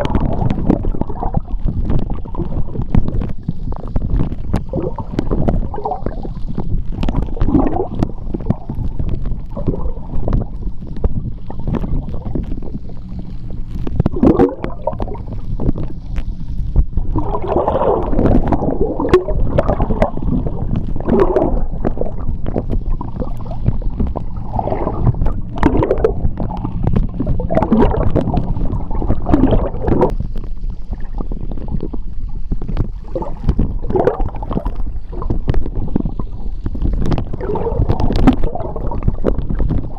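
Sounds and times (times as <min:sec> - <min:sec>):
gurgling bubbles: 0:00.0 - 0:39.9
underwater churning rumble: 0:00.0 - 0:39.9.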